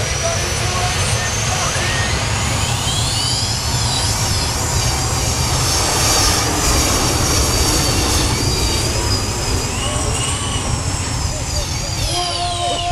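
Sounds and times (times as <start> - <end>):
loud engine rumble: 0.0 - 12.9
tractor turbine whine: 0.0 - 12.9.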